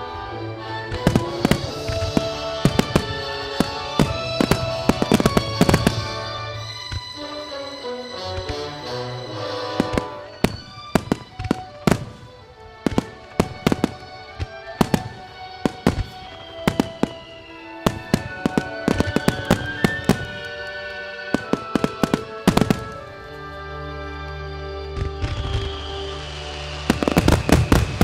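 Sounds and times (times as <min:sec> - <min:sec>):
fireworks bursting: 0:00.0 - 0:23.8, 0:24.8 - 0:28.0
music playing: 0:00.0 - 0:28.0.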